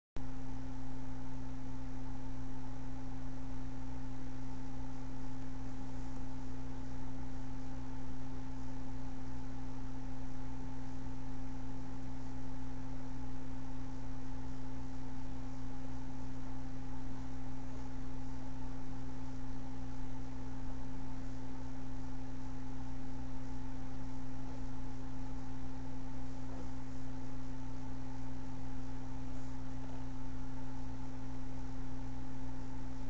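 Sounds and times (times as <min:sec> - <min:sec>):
electrical hum: 0:00.2 - 0:33.0.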